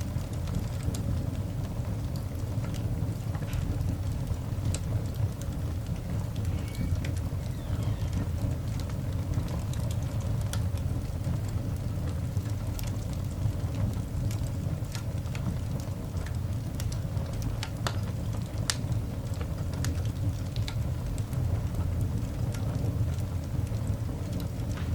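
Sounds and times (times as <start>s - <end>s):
coal fire crackling and popping: 0.0s - 24.9s
low fire rumble: 0.0s - 24.9s.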